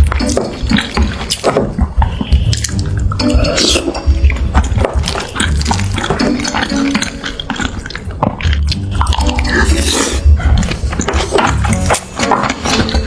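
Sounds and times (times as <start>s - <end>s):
background music with bass: 0.0s - 13.0s
dishes and cutlery clinking: 0.0s - 13.0s.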